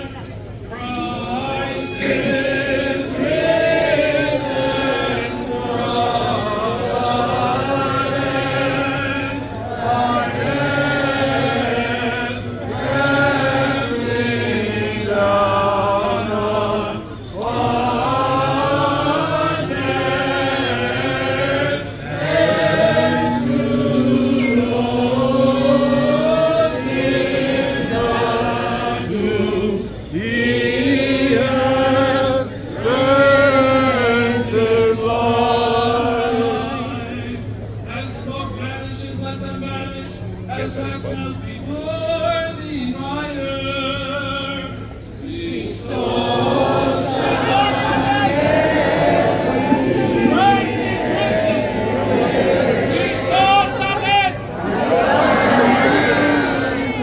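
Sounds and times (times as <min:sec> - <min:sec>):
voices chanting liturgy: 0:00.0 - 0:57.0.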